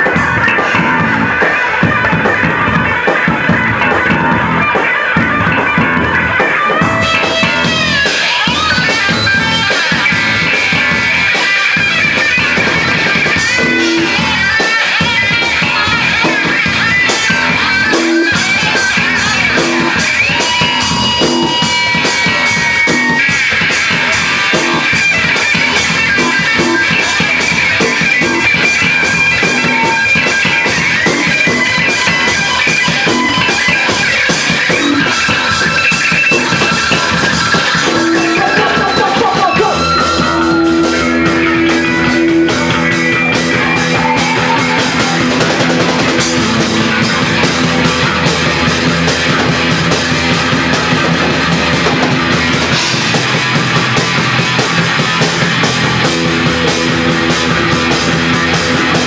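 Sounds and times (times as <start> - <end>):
live instrumental rock band: 0.0 - 59.0
long held high guitar notes: 0.0 - 59.0.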